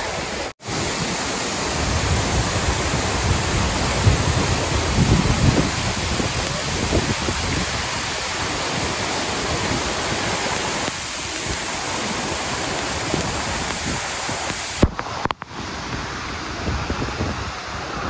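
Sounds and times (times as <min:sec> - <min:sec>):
stream rapids: 0:00.0 - 0:18.0
waterfall rushing: 0:00.0 - 0:18.0.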